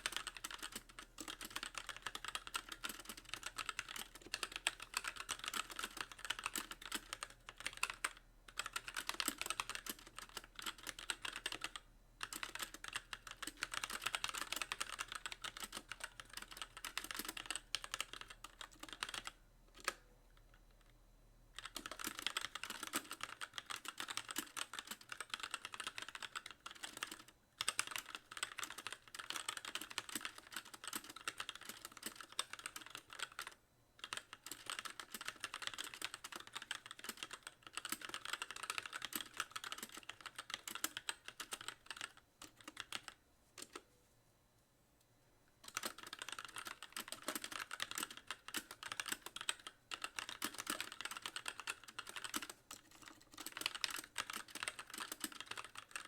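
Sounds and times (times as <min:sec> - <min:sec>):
mechanical keyboard typing: 0:00.0 - 0:20.0, 0:21.6 - 0:43.9, 0:45.6 - 0:56.0.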